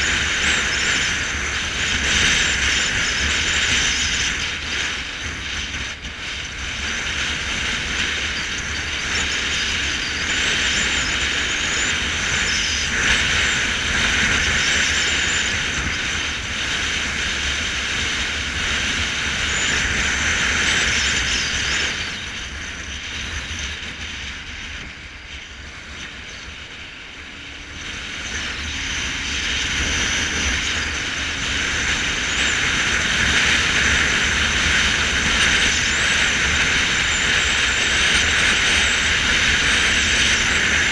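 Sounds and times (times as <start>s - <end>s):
motorcycle engine rumble: 4.5s - 40.9s.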